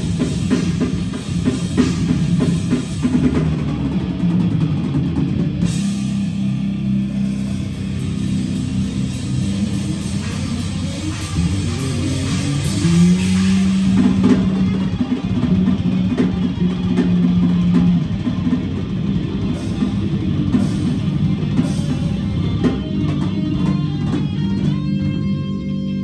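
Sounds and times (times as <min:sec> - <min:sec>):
live metal band playing: 0:00.0 - 0:26.0.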